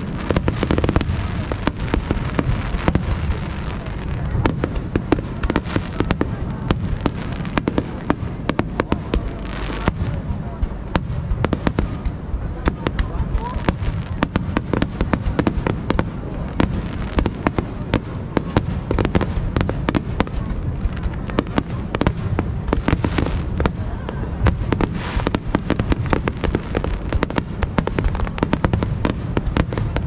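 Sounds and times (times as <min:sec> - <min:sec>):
fireworks bangs: 0:00.0 - 0:30.0
low rumble of booms: 0:00.0 - 0:30.0.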